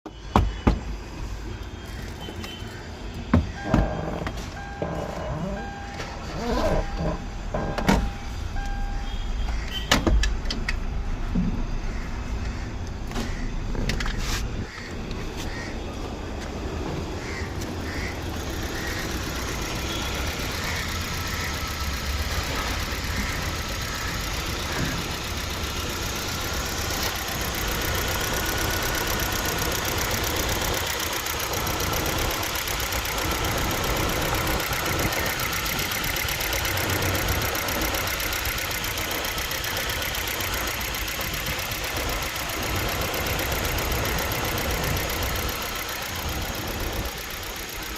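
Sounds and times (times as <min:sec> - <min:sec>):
car engine idling with misfire: 0:00.1 - 0:47.9.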